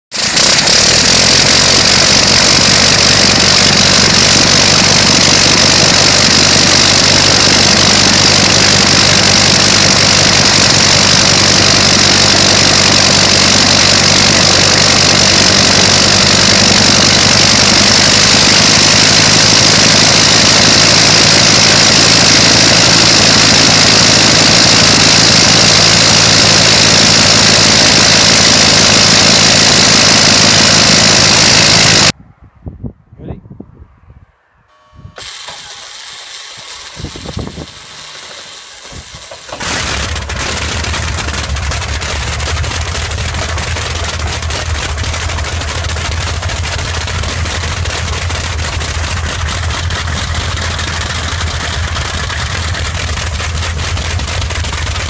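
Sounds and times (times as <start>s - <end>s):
rotary aircraft engine running: 0.1s - 32.2s, 34.8s - 55.0s.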